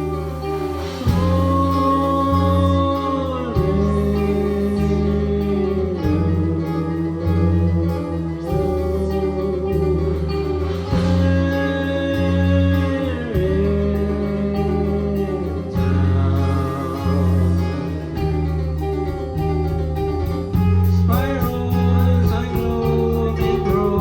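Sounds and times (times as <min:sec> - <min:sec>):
bass line: 0:00.0 - 0:24.0
guitar: 0:00.0 - 0:24.0
held melody notes sliding down: 0:00.0 - 0:24.0
live band playing: 0:00.0 - 0:24.0.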